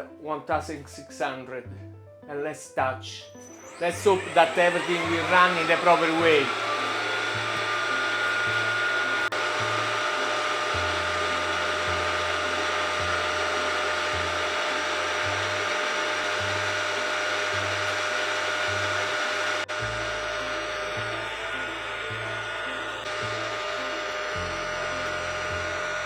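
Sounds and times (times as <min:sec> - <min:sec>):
milling machine motor: 0:03.2 - 0:26.0
thin steady whine: 0:03.3 - 0:26.0.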